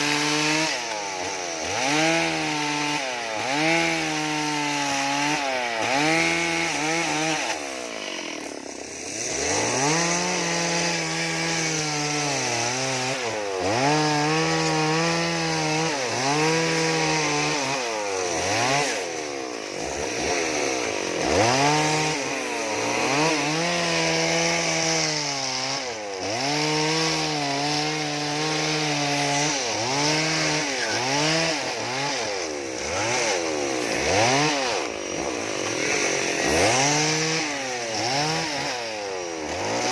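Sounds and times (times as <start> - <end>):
chainsaw revving carving wood: 0.0 - 39.9.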